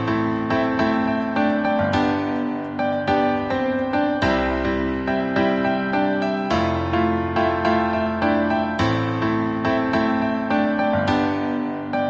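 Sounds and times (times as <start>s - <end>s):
piano playing slow chords: 0.0s - 12.0s.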